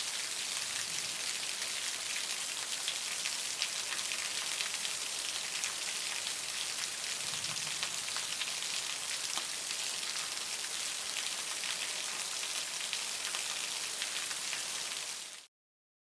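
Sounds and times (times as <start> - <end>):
very heavy rain falling: 0.0 - 15.5.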